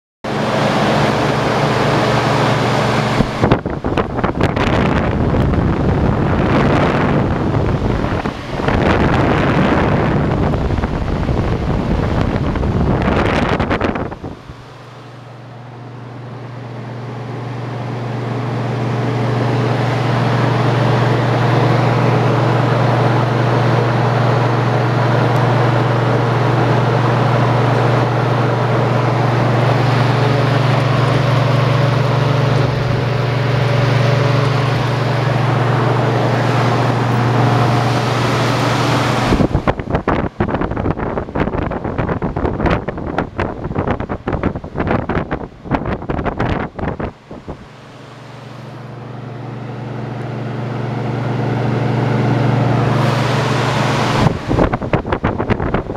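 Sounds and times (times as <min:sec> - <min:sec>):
cooler fan motor hum: 0:00.2 - 0:55.9
rushing air: 0:00.3 - 0:17.6, 0:18.7 - 0:55.9
air buffeting microphone: 0:00.3 - 0:55.9.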